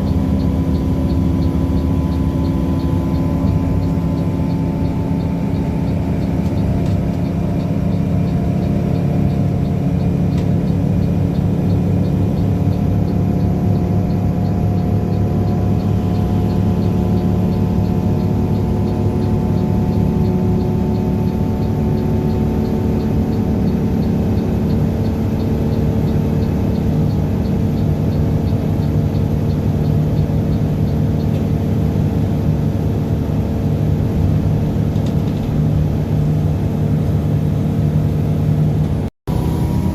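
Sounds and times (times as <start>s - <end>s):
faint regular ticking: 0.0s - 32.0s
coach diesel engine running: 0.0s - 39.9s
road noise: 0.0s - 39.9s.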